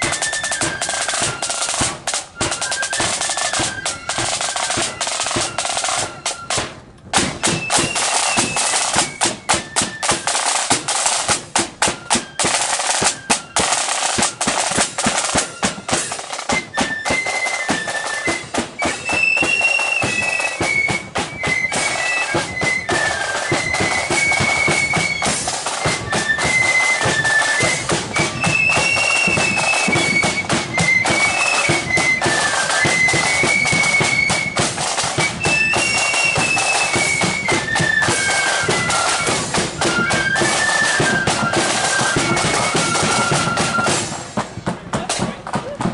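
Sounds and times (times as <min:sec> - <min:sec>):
high-pitched flutes playing: 0:00.0 - 0:06.7, 0:07.4 - 0:44.2
snare and bass drums: 0:00.0 - 0:45.9.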